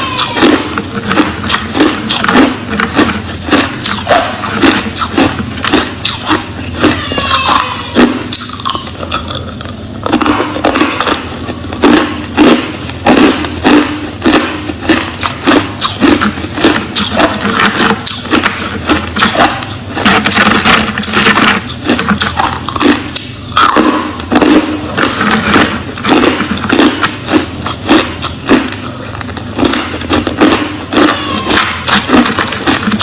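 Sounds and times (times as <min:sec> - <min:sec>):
ice being chewed: 0:00.0 - 0:33.0.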